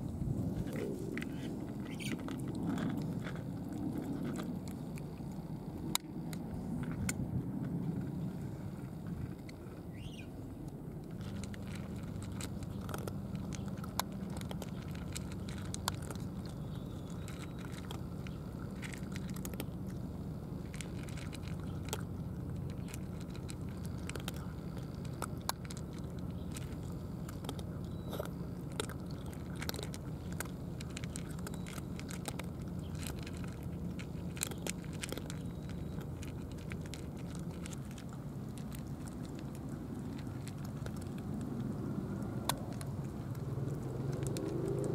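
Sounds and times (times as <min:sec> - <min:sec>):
cats crunching dry kibble: 0:00.0 - 0:44.9.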